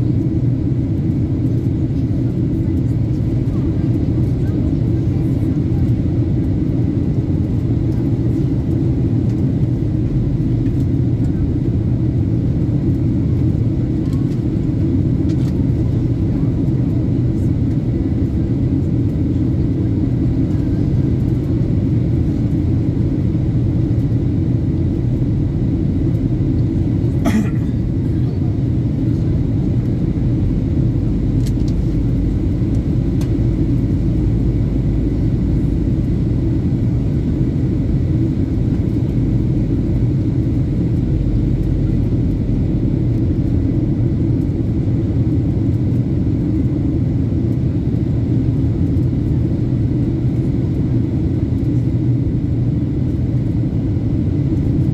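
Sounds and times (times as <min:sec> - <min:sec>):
airliner engines rumbling: 0:00.0 - 0:54.9.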